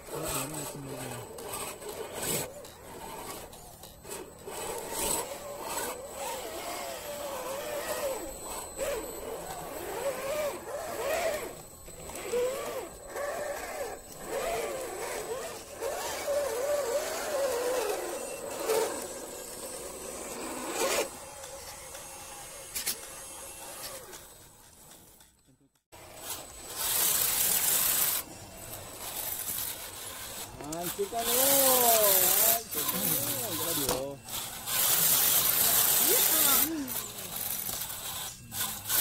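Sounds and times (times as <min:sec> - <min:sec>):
electric motor whining: 0:00.0 - 0:25.2, 0:26.0 - 0:39.0.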